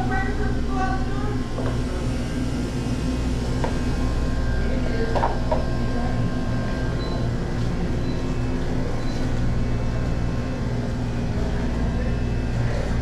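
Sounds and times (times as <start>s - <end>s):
air handling and cooler hum: 0.0s - 13.0s.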